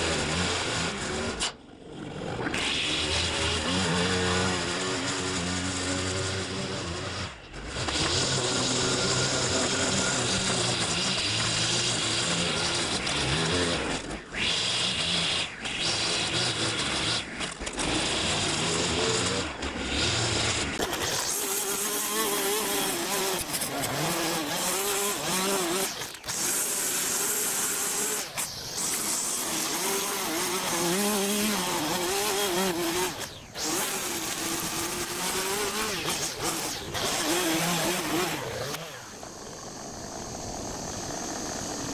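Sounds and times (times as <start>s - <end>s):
line trimmer engine revving: 0.0s - 41.9s
trimmer line cutting grass: 0.0s - 41.9s.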